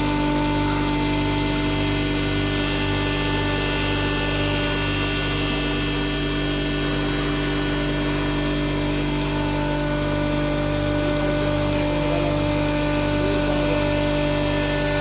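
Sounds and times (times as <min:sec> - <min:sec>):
flour mill grinding: 0:00.0 - 0:15.0.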